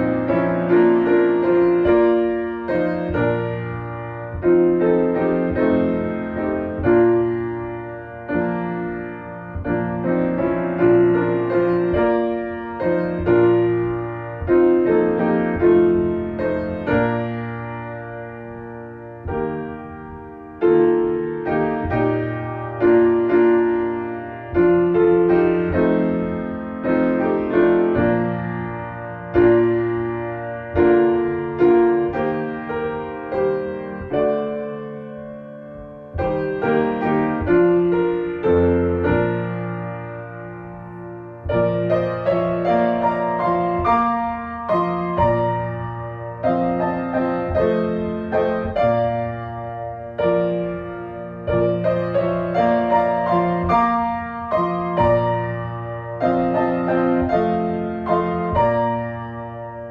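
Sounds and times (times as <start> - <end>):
slow gentle piano piece: 0.0 - 59.9.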